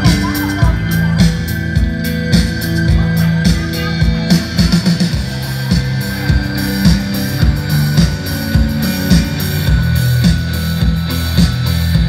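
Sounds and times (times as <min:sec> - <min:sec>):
loud band music with drums and guitar: 0:00.0 - 0:12.0.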